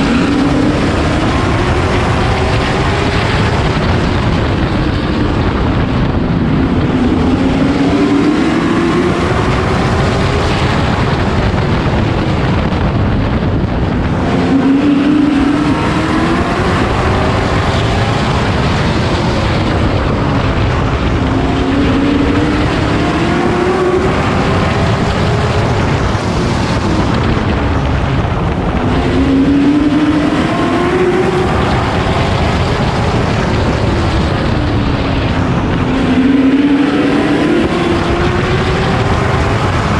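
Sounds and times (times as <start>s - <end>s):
race truck engine accelerating: 0.0s - 39.9s.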